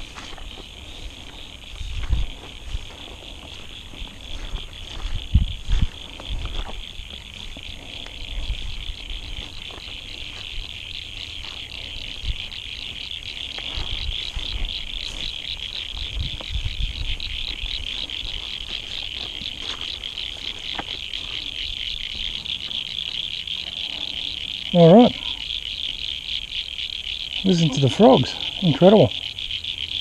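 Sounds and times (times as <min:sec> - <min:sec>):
frogs chorus trilling: 0:00.0 - 0:30.0.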